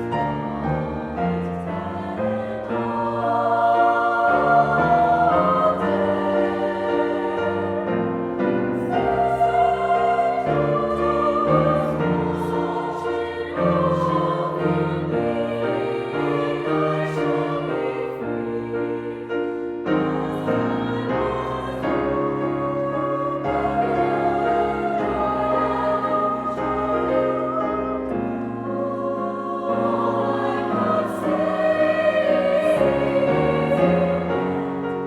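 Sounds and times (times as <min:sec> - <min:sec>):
mixed choir singing: 0:00.0 - 0:35.0
piano accompaniment: 0:00.0 - 0:35.0.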